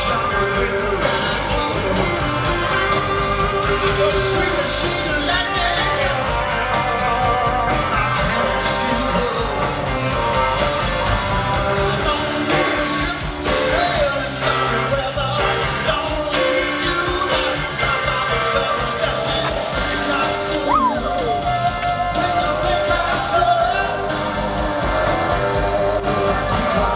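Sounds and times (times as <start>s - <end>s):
man singing: 0.0s - 10.9s, 11.6s - 24.4s
live rock band playing: 0.0s - 26.9s.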